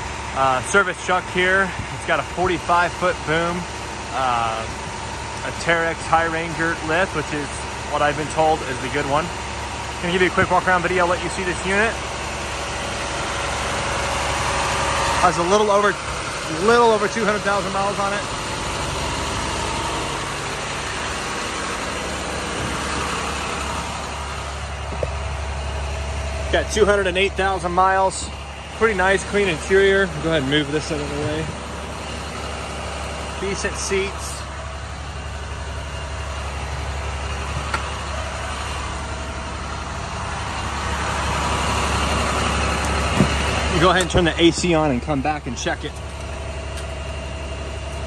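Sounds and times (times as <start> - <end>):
diesel truck engine idling: 0.0 - 48.0.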